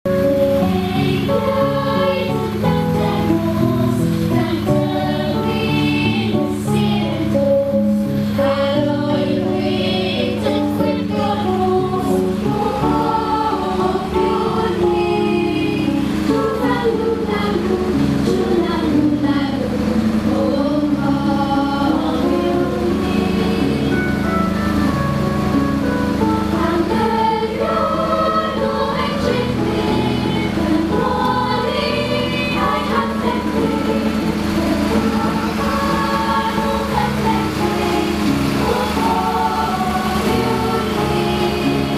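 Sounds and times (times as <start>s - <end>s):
choir singing held notes: 0.1s - 41.9s.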